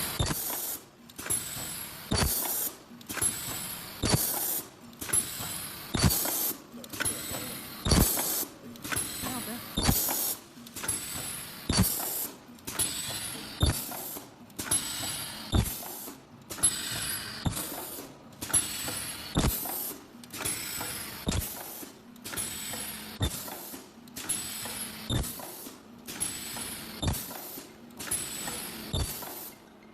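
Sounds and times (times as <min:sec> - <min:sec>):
machine clacking: 0:00.0 - 0:29.8.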